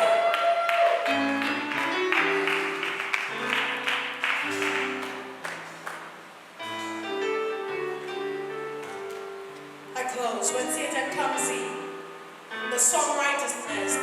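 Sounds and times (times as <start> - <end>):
keyboard chords: 0.8 - 14.0.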